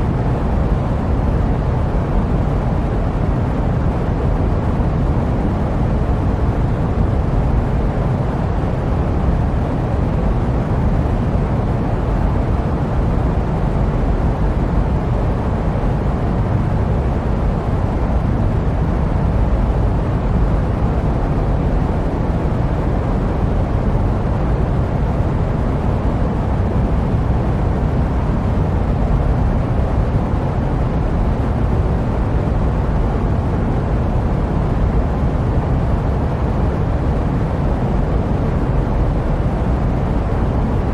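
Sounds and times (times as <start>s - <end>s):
jet aircraft rumble: 0.0s - 40.9s.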